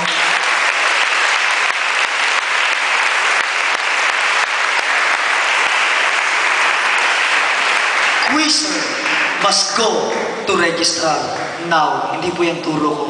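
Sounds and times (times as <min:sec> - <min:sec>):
congregation clapping: 0:00.0 - 0:11.7.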